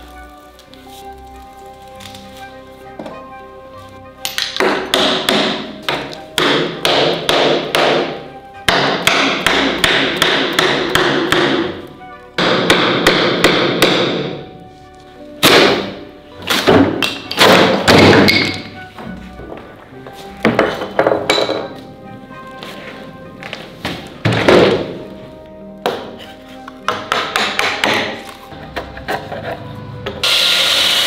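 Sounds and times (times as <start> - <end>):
background music: 0.0 - 31.0.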